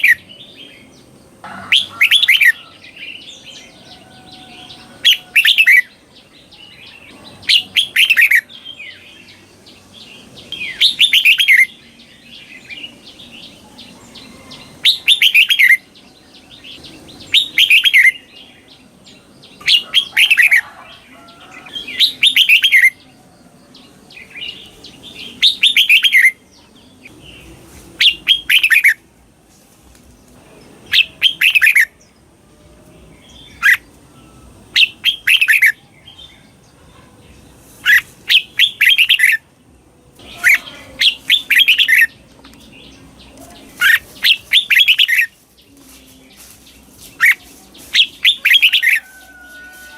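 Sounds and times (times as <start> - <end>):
bulbul singing: 0.0 - 29.2, 30.1 - 49.9.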